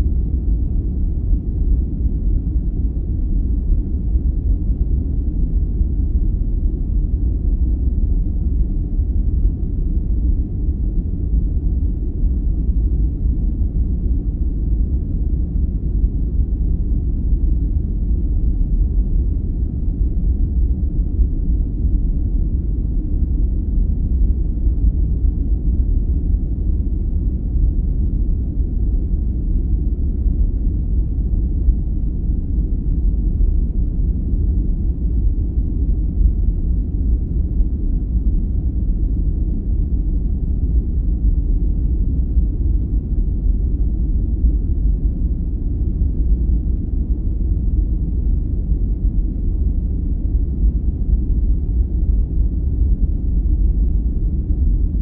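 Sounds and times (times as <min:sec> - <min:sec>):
deep dark rumble noise: 0:00.0 - 0:55.0.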